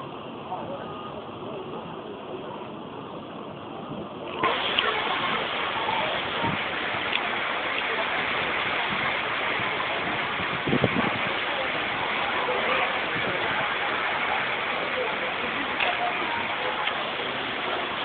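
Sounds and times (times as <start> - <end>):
heavy rain on wet pavement: 0.5 - 18.0.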